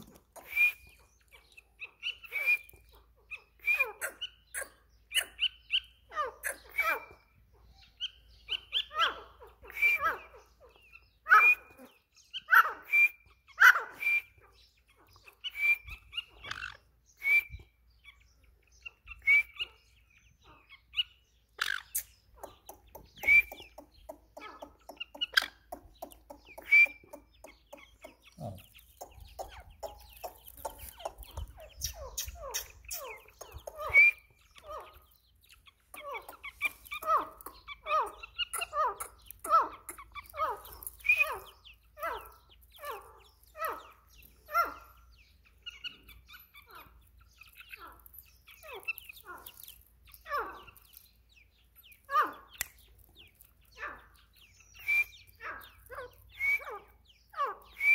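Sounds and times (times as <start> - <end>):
faint bird chattering: 0.0 - 57.9.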